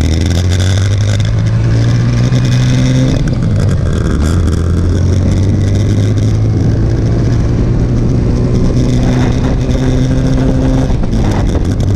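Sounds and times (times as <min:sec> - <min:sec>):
motorcycle engine running: 0:00.0 - 0:11.9
wind noise rushing: 0:01.4 - 0:11.9.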